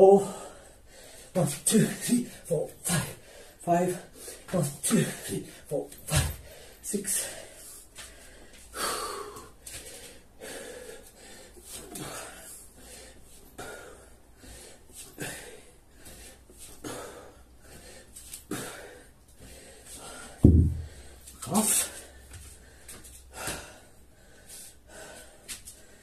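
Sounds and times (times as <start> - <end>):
man breathing hard and wheezing: 0.2 - 1.4, 2.0 - 4.5, 5.2 - 26.0.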